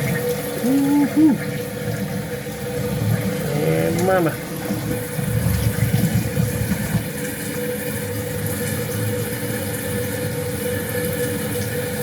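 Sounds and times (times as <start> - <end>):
toilet fill valve running: 0.0 - 12.0.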